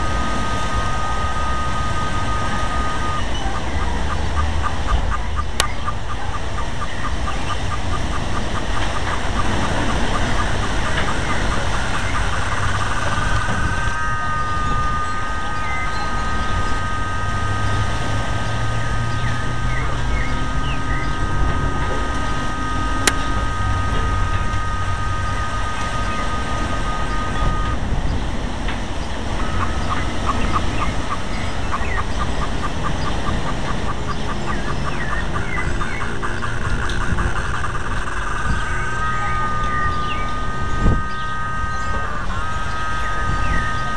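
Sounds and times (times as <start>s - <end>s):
gusty wind through foliage: 0.0s - 43.9s
high-pitched wind whistle: 0.0s - 43.9s
rapid chirping: 0.0s - 43.9s
wind buffeting microphone: 0.0s - 43.9s.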